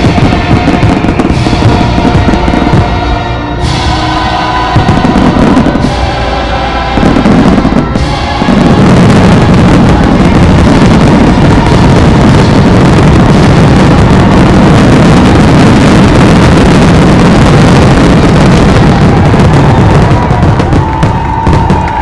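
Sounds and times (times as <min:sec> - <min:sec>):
fireworks barrage: 0:00.0 - 0:22.0.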